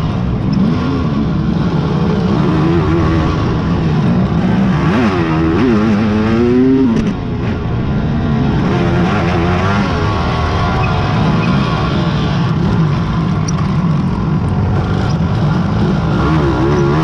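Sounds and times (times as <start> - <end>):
quad engines revving: 0.0 - 17.0.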